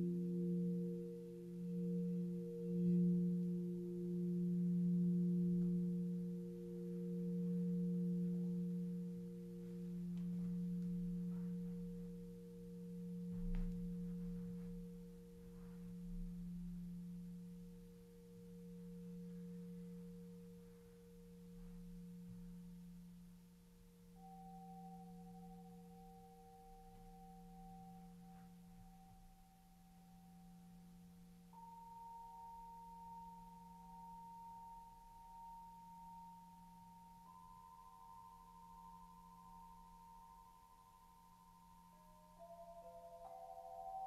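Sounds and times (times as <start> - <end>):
crystal singing bowl ringing: 0.0 - 44.0.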